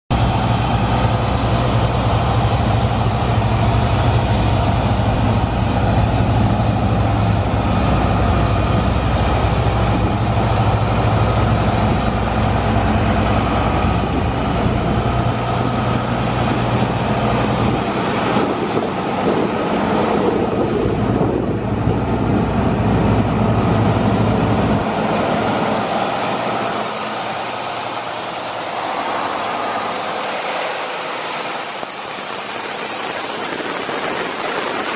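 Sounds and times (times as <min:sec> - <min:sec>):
diesel engine deep hum: 0:00.1 - 0:34.9
hiss of air and cooling fan: 0:00.1 - 0:34.9.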